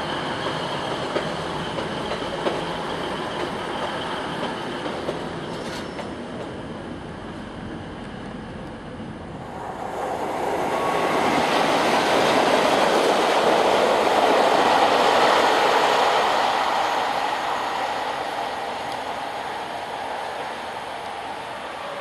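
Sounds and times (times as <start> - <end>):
diesel locomotives passing: 0.0 - 22.0.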